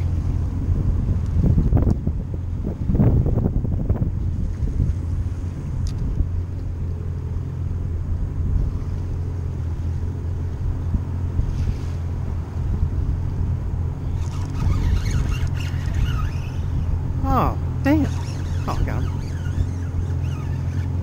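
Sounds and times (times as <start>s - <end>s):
boat engine idling: 0.0s - 21.0s
wind: 0.0s - 21.0s.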